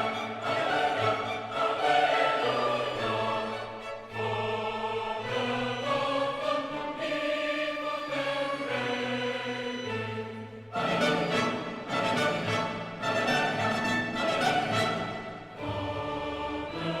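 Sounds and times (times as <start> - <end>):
choir singing sustained chords: 0.0 - 17.0
orchestral accompaniment: 0.0 - 17.0.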